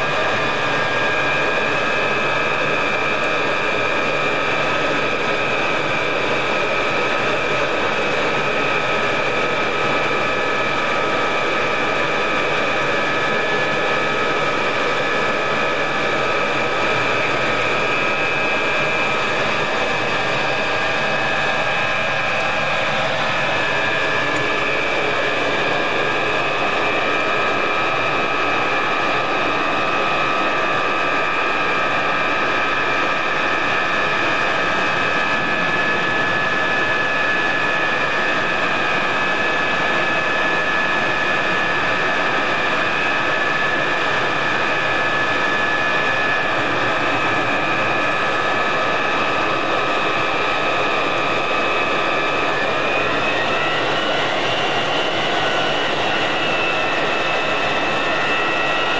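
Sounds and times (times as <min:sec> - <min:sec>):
jet engines whining: 0:00.0 - 0:58.9.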